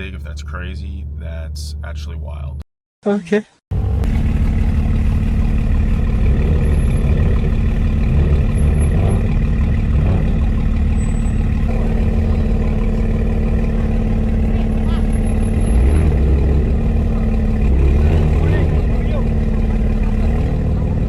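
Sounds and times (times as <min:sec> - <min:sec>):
car engine idling: 0:03.7 - 0:21.0.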